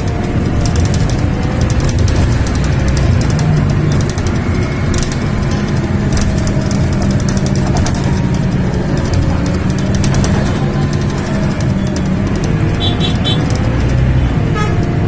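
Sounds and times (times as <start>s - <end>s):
vehicle rumble from inside: 0.0s - 15.0s.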